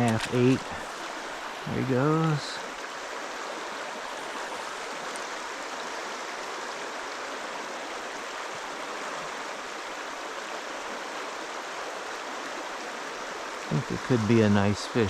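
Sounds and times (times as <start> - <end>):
stream water rippling over rocks: 0.0 - 15.0.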